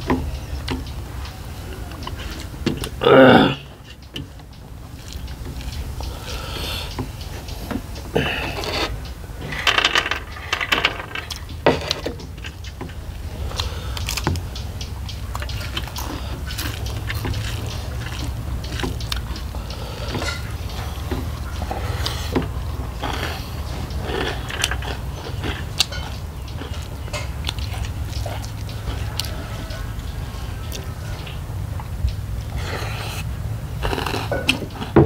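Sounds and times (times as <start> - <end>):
chewing: 0.0 - 35.0
steady low hum: 0.0 - 35.0.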